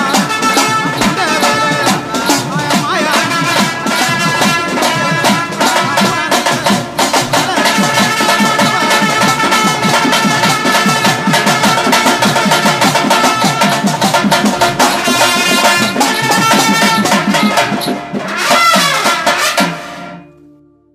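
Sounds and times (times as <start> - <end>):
folk drums fast rhythm: 0.0 - 20.0.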